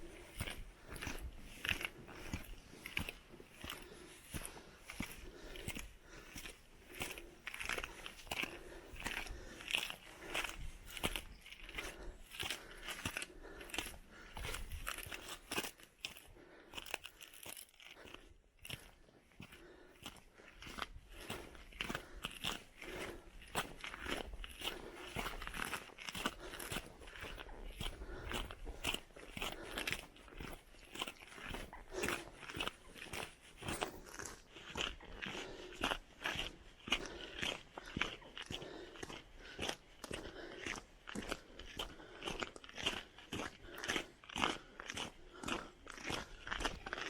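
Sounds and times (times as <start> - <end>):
crunching footsteps: 0.0 - 47.0.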